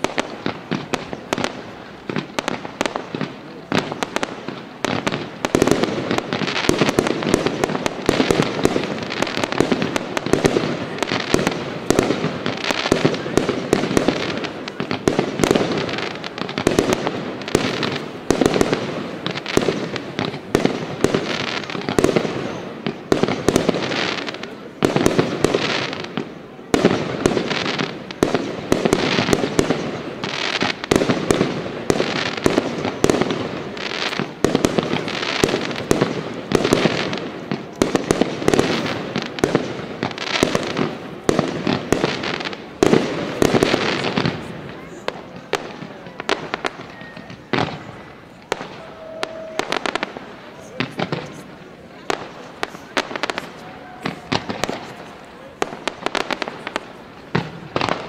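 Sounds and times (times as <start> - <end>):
fireworks exploding: 0.0 - 58.0.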